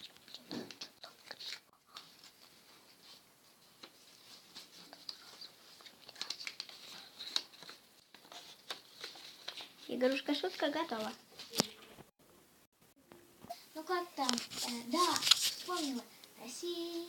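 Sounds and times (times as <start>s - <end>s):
paper crinkling and rustling: 0.0s - 12.1s, 14.2s - 16.1s.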